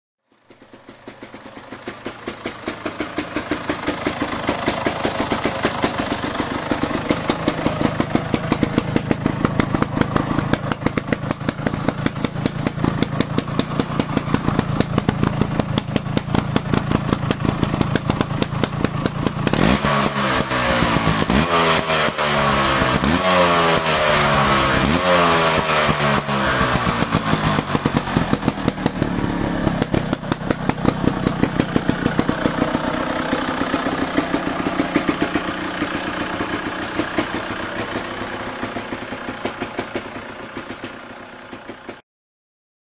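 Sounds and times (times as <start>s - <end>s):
two-stroke motorcycle engine revving: 0.4s - 42.0s.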